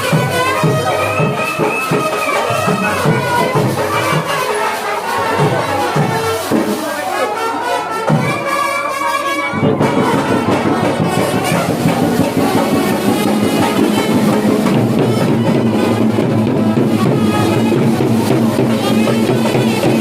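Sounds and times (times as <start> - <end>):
music with brass and drums: 0.0 - 20.0.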